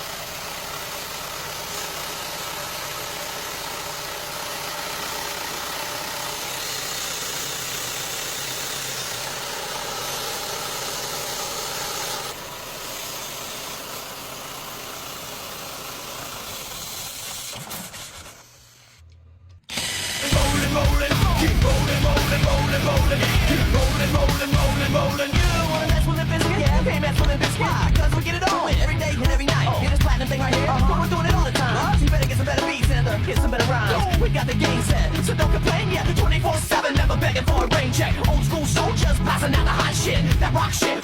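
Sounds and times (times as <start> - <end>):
car engine idling: 0.0 - 17.2, 20.3 - 40.8.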